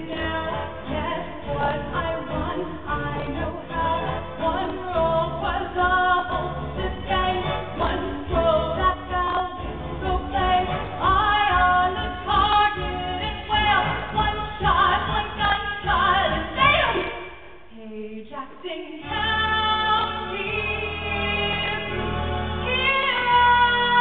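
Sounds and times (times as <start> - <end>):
woman singing show tune: 0.0 - 22.0.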